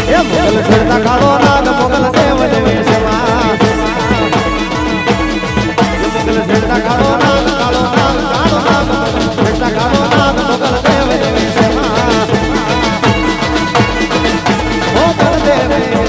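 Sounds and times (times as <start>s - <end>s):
quick drum beat: 0.0s - 16.0s.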